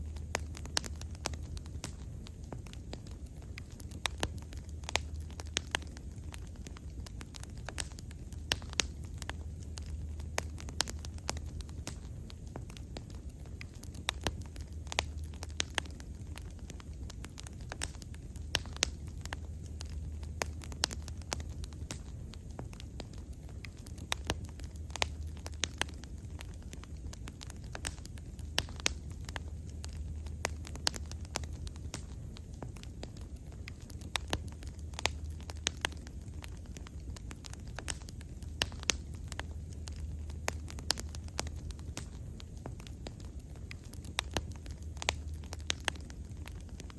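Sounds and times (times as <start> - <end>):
low rumble of flame: 0.0 - 46.9
wood fire crackling and popping: 0.0 - 46.9.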